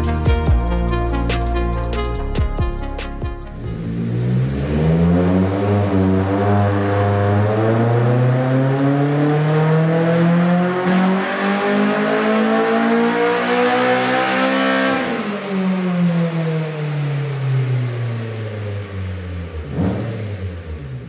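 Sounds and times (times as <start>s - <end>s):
car engine revving: 3.4s - 21.0s.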